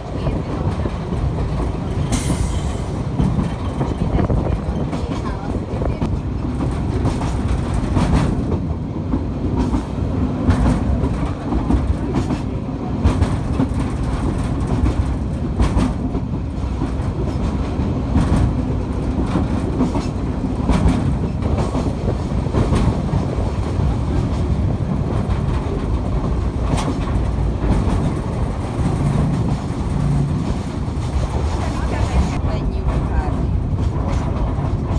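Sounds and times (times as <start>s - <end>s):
train rumbling along track: 0.0s - 34.9s.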